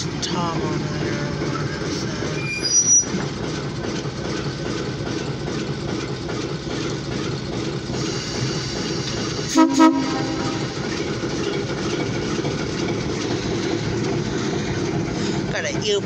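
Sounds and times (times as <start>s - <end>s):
muffled diesel locomotive rumble: 0.0s - 16.0s
wheels on rail: 0.0s - 16.0s.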